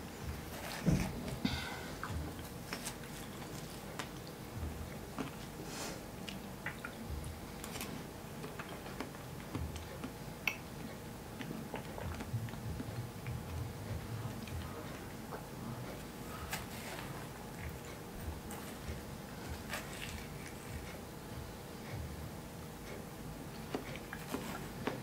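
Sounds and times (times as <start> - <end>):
person chewing watermelon: 0.2 - 5.6, 6.2 - 22.1, 22.8 - 25.0.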